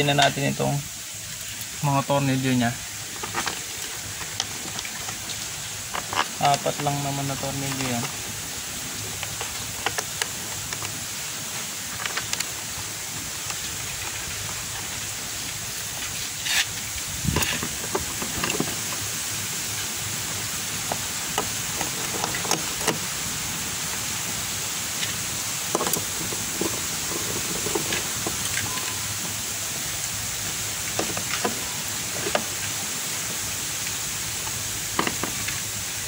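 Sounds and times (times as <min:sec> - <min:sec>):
steady hiss: 0:00.0 - 0:36.0.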